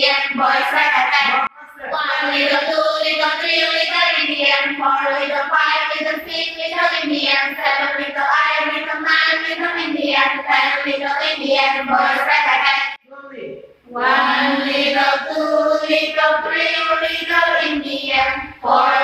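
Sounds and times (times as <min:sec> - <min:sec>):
young women singing in unison: 0:00.0 - 0:13.0, 0:13.9 - 0:19.0.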